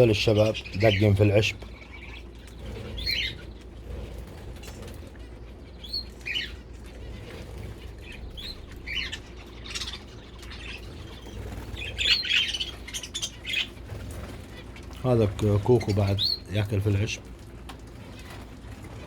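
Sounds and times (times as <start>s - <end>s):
finches chirping: 0.0s - 17.2s
wing flutters: 0.0s - 19.0s.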